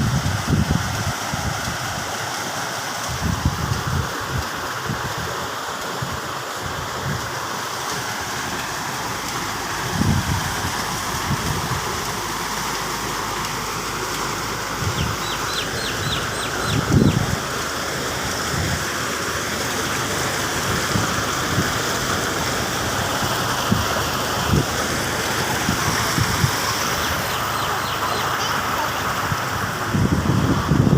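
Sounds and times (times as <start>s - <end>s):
rushing outdoor ambience: 0.0s - 30.9s.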